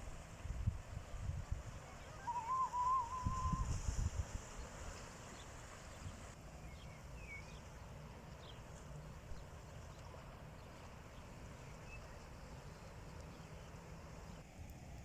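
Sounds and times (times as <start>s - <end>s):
faint sea wash: 0.0s - 15.0s.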